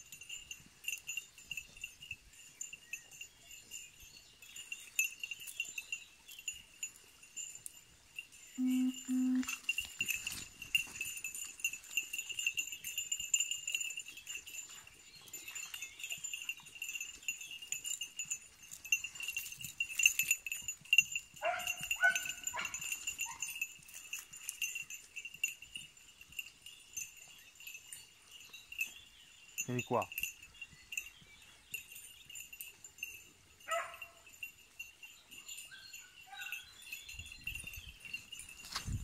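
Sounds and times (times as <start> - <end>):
collar bell jingling: 0.0 - 39.0.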